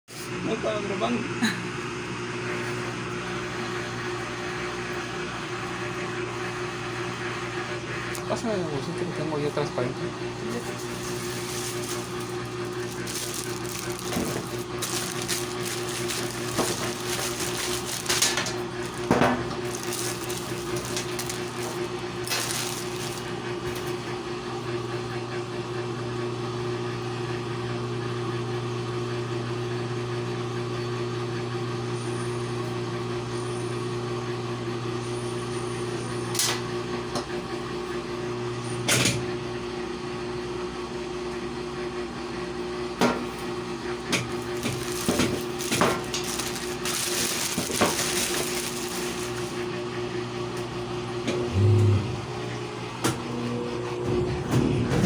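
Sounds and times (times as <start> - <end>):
appliance electrical hum: 0.1 - 55.0.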